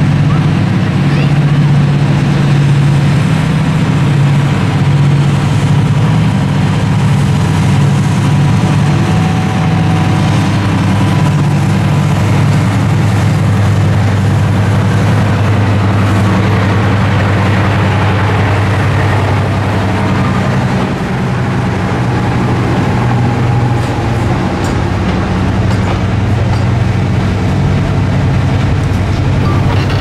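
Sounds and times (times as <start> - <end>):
diesel locomotive engine throbbing: 0.0 - 30.0.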